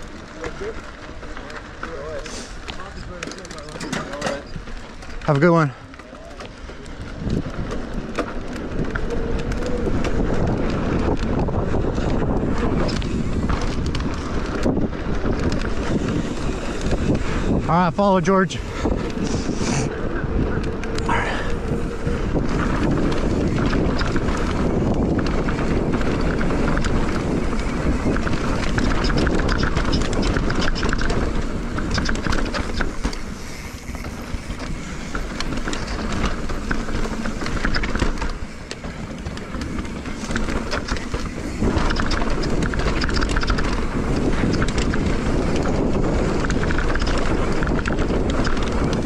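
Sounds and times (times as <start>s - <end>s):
bike rattling and knocking: 0.0s - 49.0s
tyres rumbling on dirt: 0.0s - 49.0s
wind buffeting microphone: 0.0s - 49.0s.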